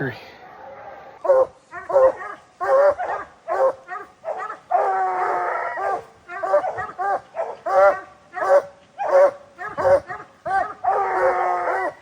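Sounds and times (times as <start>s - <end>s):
hounds baying: 0.8s - 12.0s.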